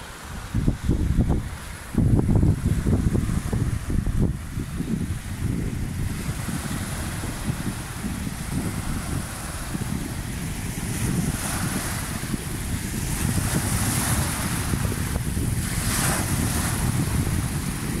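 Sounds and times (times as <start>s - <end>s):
surf breaking on sand: 0.0s - 18.0s
wind buffeting microphone: 0.0s - 18.0s.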